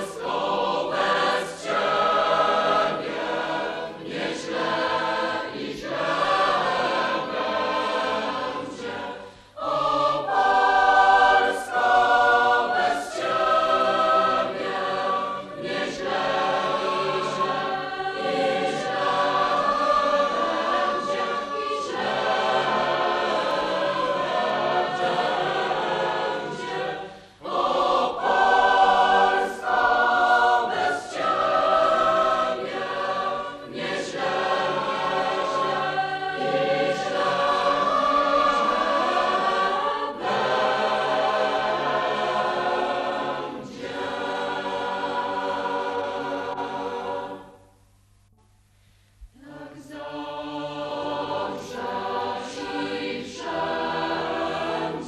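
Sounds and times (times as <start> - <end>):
youth choir singing: 0.0 - 47.6, 49.4 - 55.0.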